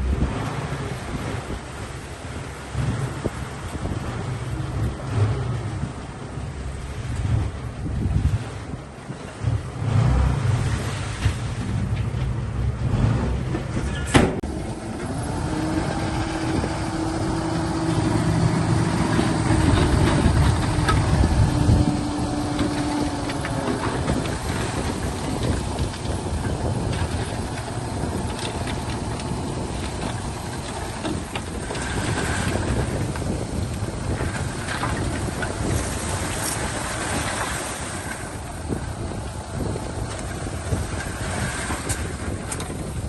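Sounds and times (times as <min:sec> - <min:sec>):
diesel machinery engine rumbling: 0:00.0 - 0:08.2, 0:09.3 - 0:43.0.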